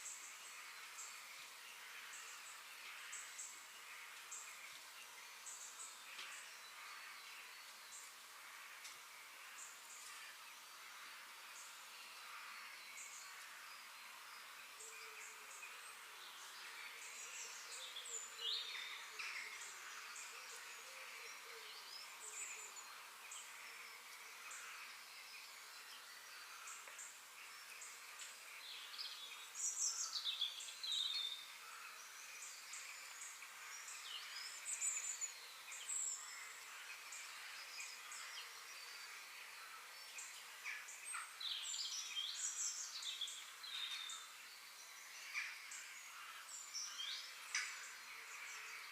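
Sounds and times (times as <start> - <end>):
steady faint hiss: 0.0 - 48.9
wild birds chirping: 0.0 - 48.9.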